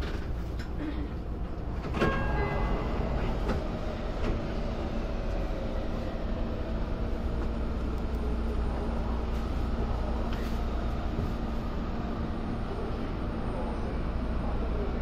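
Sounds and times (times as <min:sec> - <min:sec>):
train rumbling hum: 0:00.0 - 0:15.0
train drawing away: 0:00.1 - 0:15.0.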